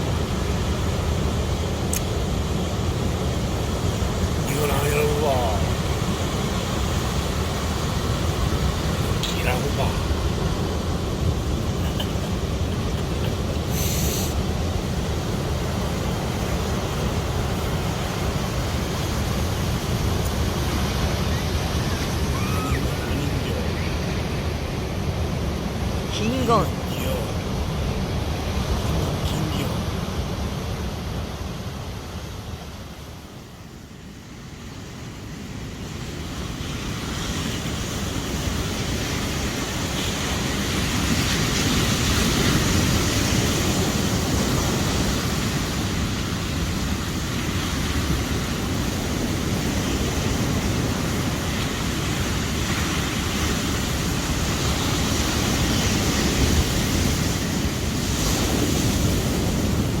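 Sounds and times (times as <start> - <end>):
sea waves breaking on beach: 0.0 - 60.0.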